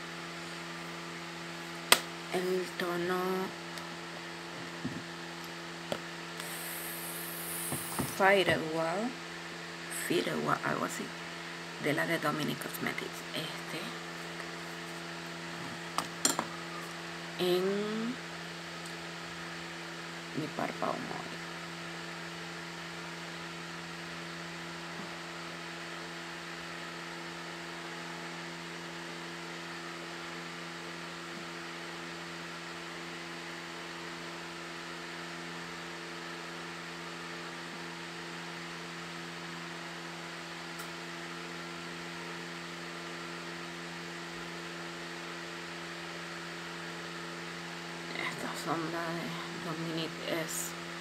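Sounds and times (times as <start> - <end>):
machine hum with held tones: 0.0 - 51.0.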